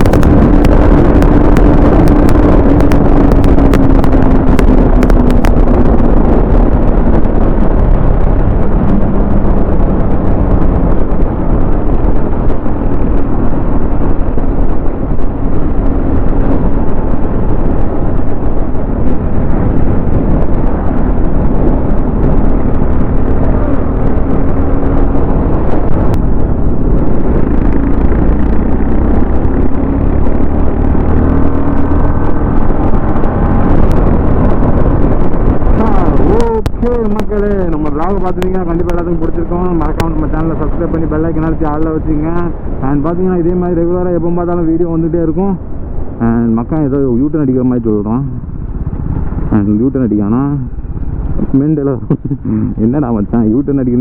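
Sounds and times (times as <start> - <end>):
motorcycle engine at speed: 0.0 - 54.0
wind noise on microphone: 0.0 - 54.0.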